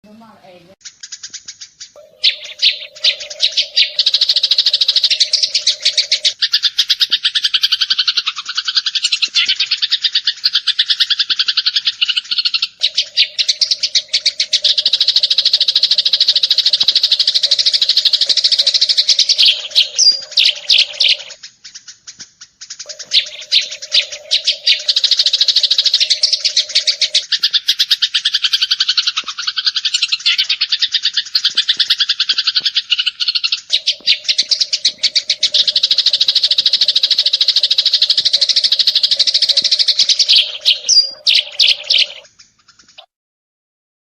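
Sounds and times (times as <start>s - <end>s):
sparrow chirping rapidly: 0.8s - 43.1s.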